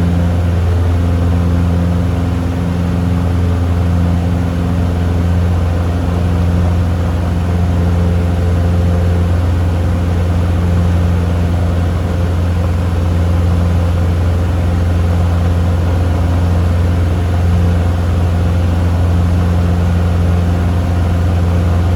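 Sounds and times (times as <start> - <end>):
aircraft engine and propeller droning: 0.0 - 21.9.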